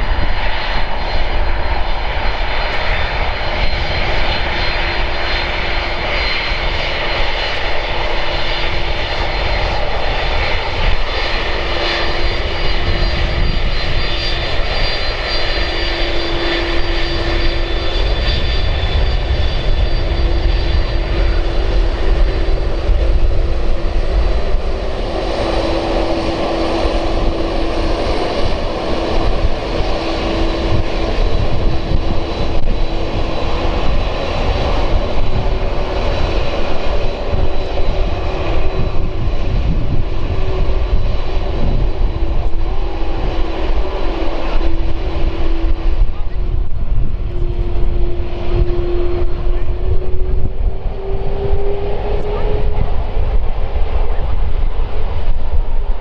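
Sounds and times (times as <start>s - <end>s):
high whining engine tones: 0.0s - 56.0s
jet engines rumbling: 0.0s - 56.0s.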